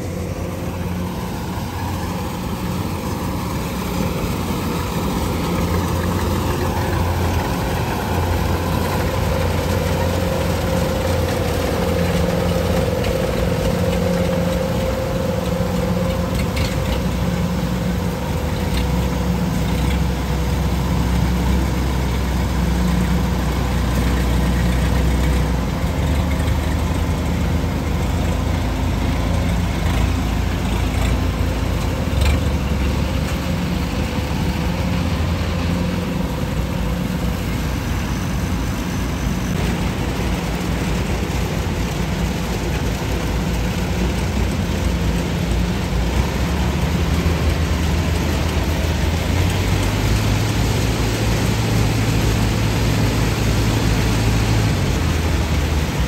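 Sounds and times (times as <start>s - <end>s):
combine harvester diesel engine drone: 0.0s - 56.0s.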